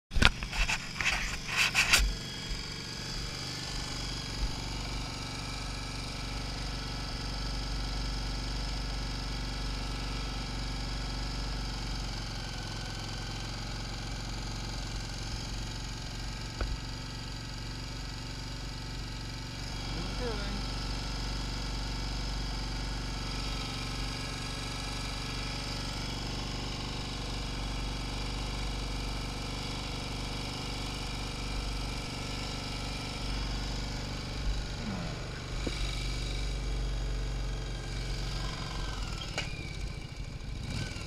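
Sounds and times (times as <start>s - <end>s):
motorcycle engine idling: 2.0s - 41.0s.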